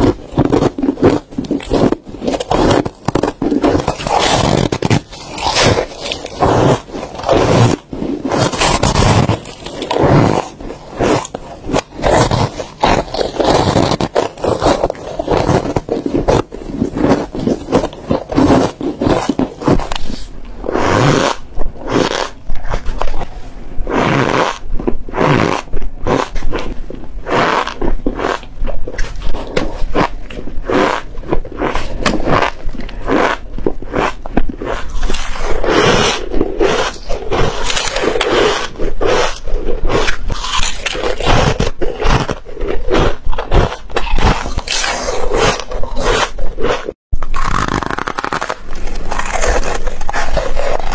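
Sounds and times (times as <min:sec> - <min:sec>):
chewing crushed ice: 0:00.0 - 0:50.9.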